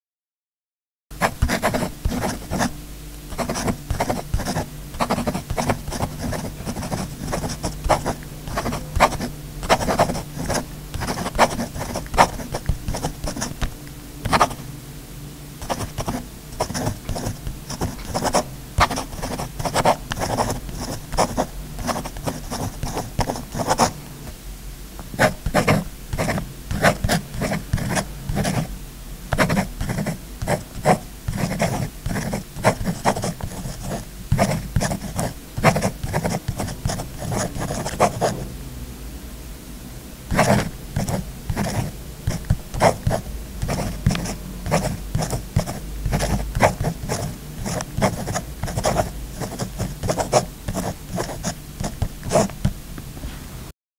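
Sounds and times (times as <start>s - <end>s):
pen scribbling: 1.2s - 2.7s, 3.3s - 14.6s, 15.6s - 24.0s, 25.2s - 28.7s, 29.3s - 38.4s, 40.3s - 52.7s.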